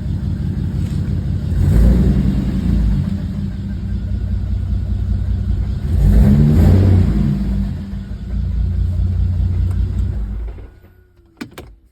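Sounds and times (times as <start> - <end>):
car engine idling and revving: 0.0 - 11.9.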